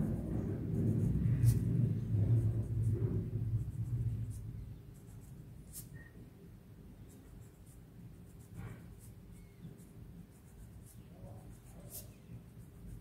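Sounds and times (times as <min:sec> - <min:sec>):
pencil scratching on paper: 0:00.0 - 0:06.1, 0:07.0 - 0:13.0
low steady hum: 0:00.0 - 0:13.0.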